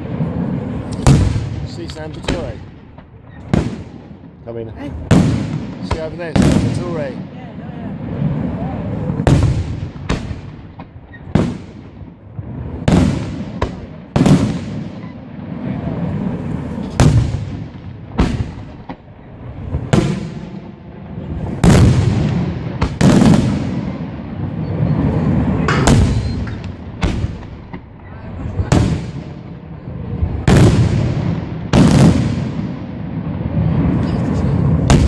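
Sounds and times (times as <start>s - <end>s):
firework shells booming: 0.0s - 35.0s.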